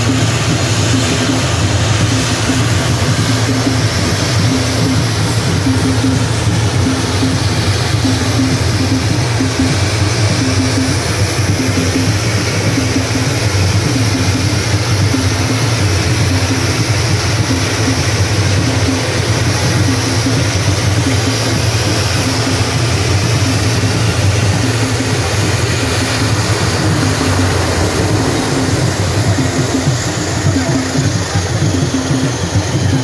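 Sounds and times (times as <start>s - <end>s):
high turbine hiss: 0.0s - 33.0s
turboprop engine idling: 0.0s - 33.0s.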